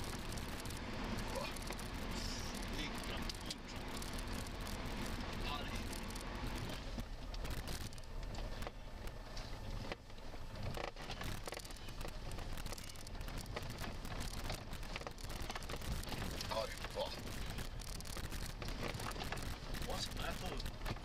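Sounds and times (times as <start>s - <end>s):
vehicle cabin low rumble: 0.0s - 21.0s.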